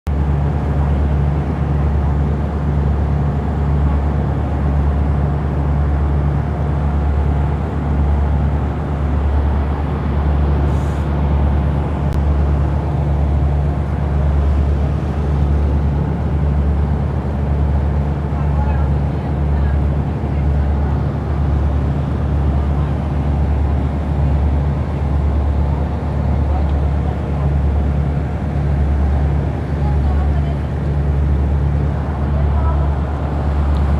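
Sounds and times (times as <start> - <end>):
boat engine drone: 0.1 - 33.9.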